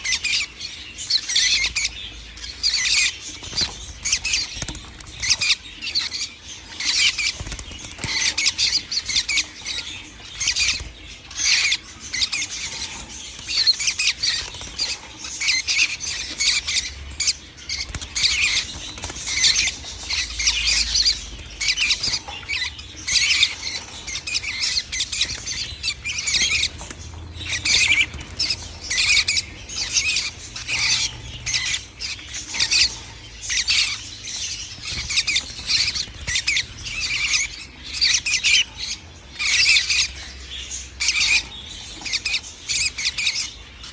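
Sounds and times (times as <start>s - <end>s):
baby birds high squeaky chirps: 0.0s - 43.9s.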